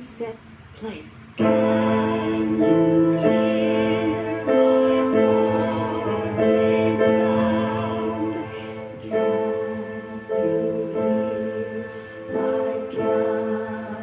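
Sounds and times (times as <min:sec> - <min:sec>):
sustained keyboard chords: 0:01.4 - 0:14.0.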